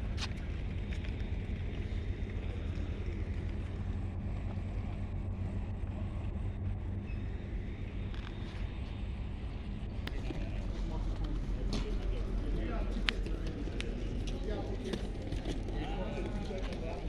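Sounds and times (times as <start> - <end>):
vehicle rumbling: 0.0 - 17.0.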